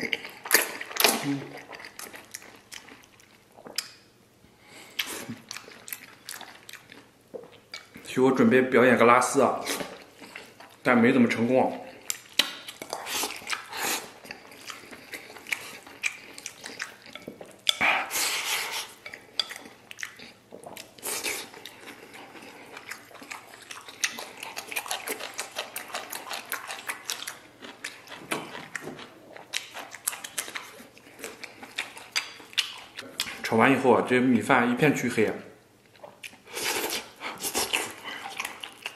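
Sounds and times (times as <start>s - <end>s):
chewing: 0.0s - 4.0s, 4.8s - 8.1s, 9.6s - 10.8s, 11.9s - 33.5s, 35.8s - 38.9s.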